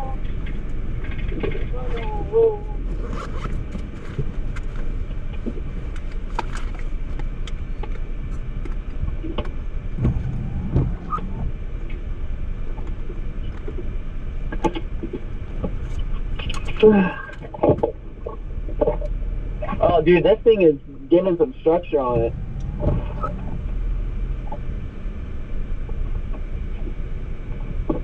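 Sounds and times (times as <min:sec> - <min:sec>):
car engine rumble inside cabin: 0:00.0 - 0:28.0.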